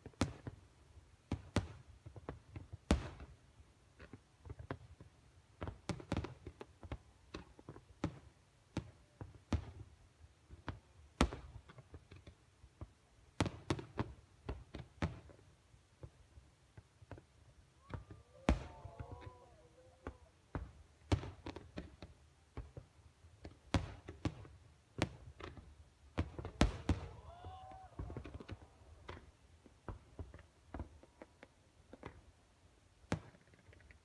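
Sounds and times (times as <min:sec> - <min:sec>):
fireworks bangs and pops: 0:00.0 - 0:32.3, 0:33.0 - 0:34.0.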